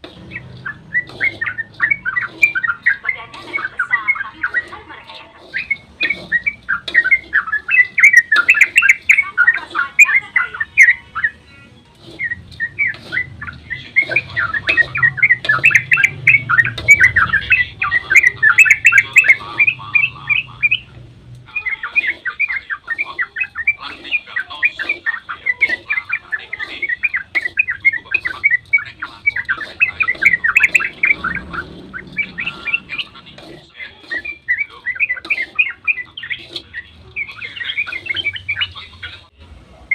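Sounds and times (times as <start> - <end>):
bulbul chattering song: 0.0 - 39.4.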